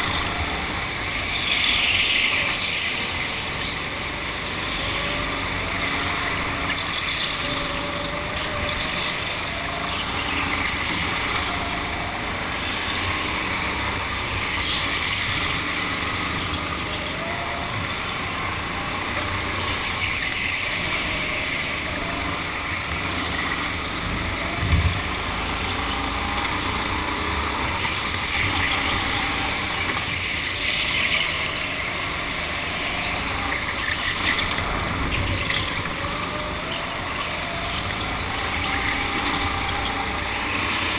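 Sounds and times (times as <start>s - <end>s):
go-kart motor: 0.0s - 40.9s.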